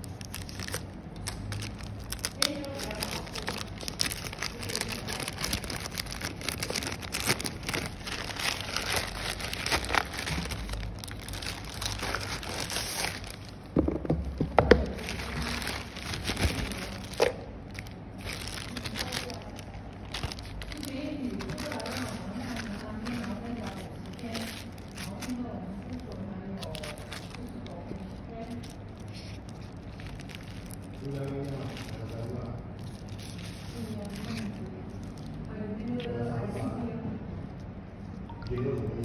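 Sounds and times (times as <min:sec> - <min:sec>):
plastic bag crinkling: 0:00.0 - 0:36.0.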